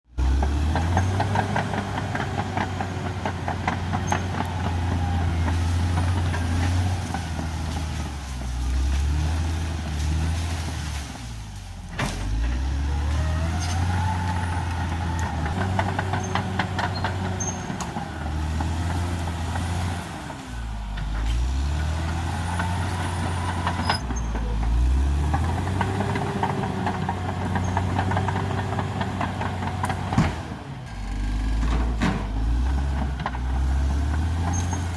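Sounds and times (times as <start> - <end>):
bulldozer diesel engine under load: 0.0 - 34.9.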